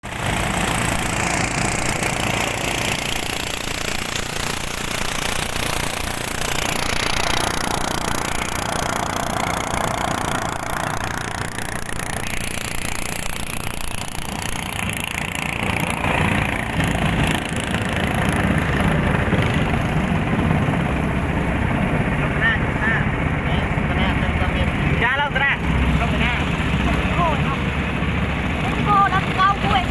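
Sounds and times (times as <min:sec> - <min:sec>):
small boat engine running: 0:00.0 - 0:29.9.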